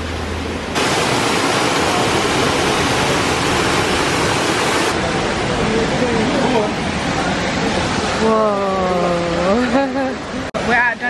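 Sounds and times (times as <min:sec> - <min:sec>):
rushing water and waterfall: 0:00.0 - 0:11.0.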